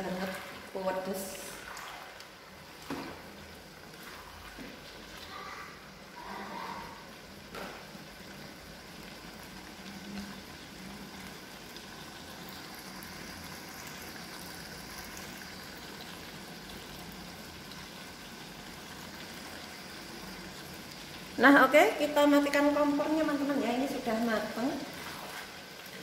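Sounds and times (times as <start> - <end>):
sauce bubbling in a wok: 0.0 - 26.0.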